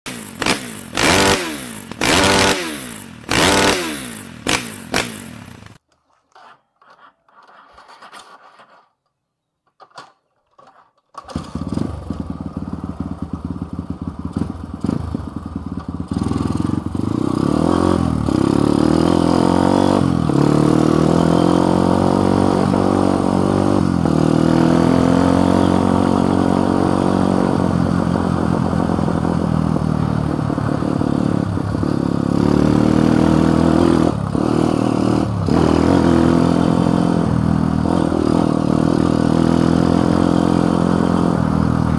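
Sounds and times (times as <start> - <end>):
motorcycle engine running: 0.1 - 5.8, 11.3 - 41.9.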